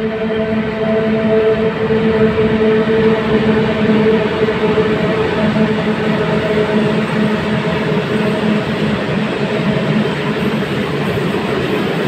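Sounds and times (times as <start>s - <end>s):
electric locomotive hum: 0.0s - 12.0s.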